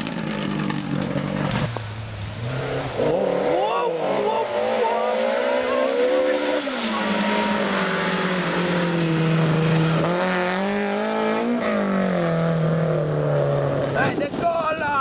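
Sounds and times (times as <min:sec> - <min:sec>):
rally car engine revving: 0:00.0 - 0:14.4.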